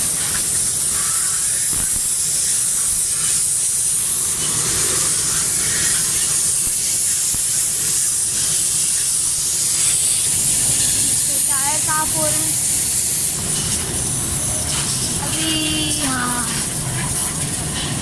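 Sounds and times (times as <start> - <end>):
high-pressure water jet hissing: 0.0 - 18.0.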